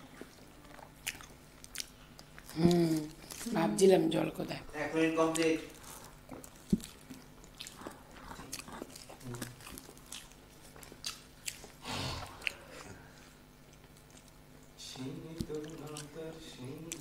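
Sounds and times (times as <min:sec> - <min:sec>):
chewing with wet mouth noises: 0:00.0 - 0:03.7, 0:05.1 - 0:17.0.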